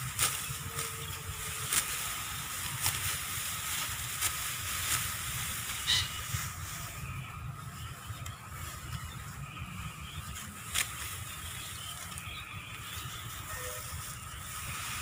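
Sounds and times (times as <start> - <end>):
sickle cutting rice stalks: 0.0 - 15.0.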